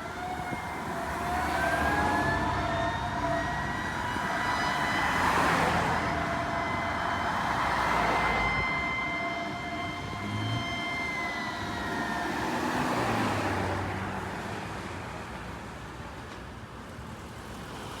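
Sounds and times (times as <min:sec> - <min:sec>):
fire truck siren wailing: 0:00.0 - 0:16.0
road traffic noise: 0:00.0 - 0:18.0.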